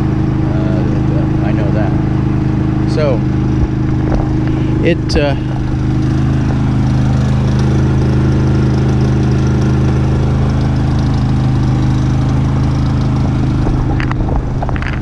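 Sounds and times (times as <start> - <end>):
generator engine humming: 0.0 - 15.0.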